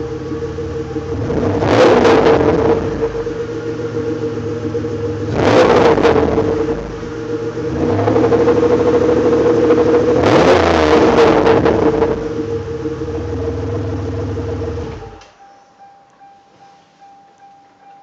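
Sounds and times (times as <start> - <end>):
car engine revving and idling: 0.0 - 15.2.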